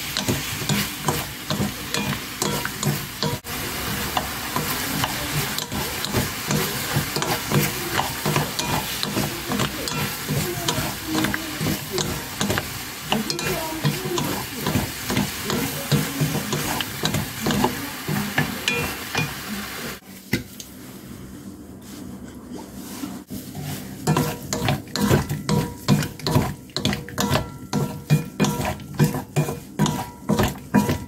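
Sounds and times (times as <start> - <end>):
spatulas knocking and scraping pan: 0.0 - 19.6, 23.3 - 31.0
vegetables sizzling in a pan: 0.0 - 21.0, 23.2 - 31.0.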